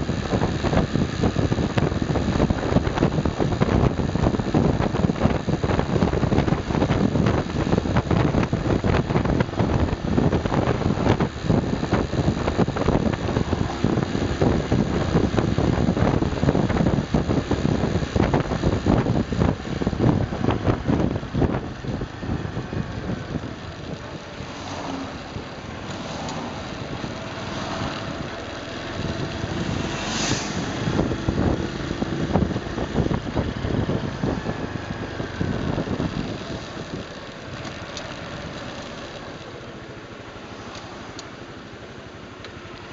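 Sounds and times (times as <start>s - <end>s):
motorcycle engine running: 0.0s - 42.9s
road and wind noise: 0.0s - 42.9s.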